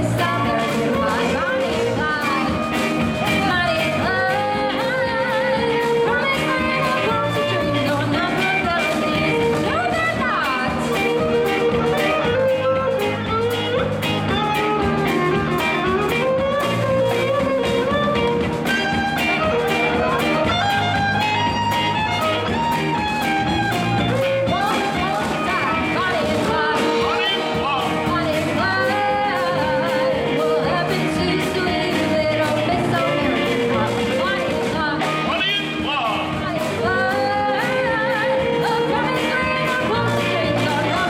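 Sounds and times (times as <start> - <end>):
woman singing: 0.0 - 35.6, 36.2 - 41.0
bass guitar: 0.0 - 41.0
drum kit beat: 0.0 - 41.0
electric guitar: 0.0 - 41.0.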